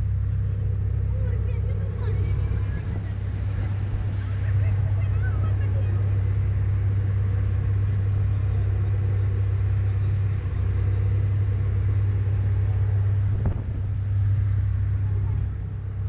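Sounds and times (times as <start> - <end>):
ship engines humming: 0.0 - 16.0.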